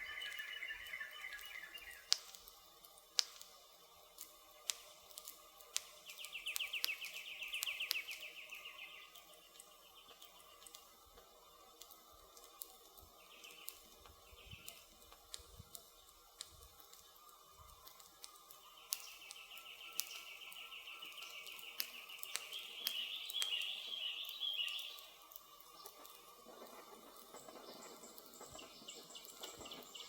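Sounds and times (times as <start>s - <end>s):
burning wood popping: 0.0s - 30.0s
campfire crackling: 0.0s - 30.0s
woodland ambience: 0.0s - 30.0s.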